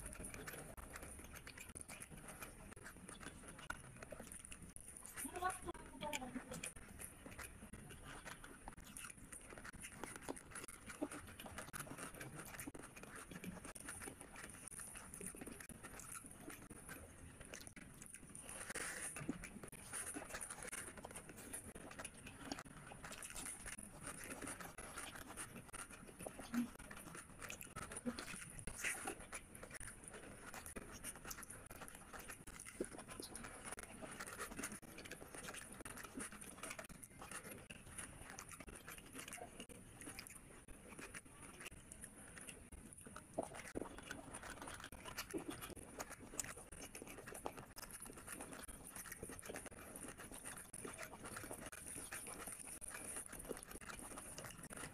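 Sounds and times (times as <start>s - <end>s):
person chewing and lip-smacking: 0.0s - 54.9s.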